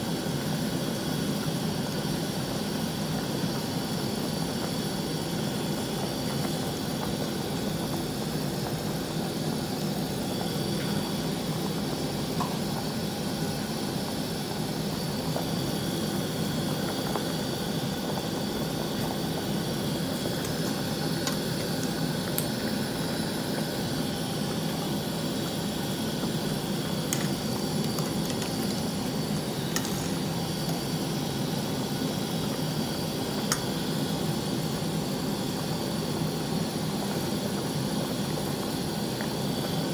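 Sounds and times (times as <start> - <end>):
broth boiling in a pot: 0.0 - 39.9.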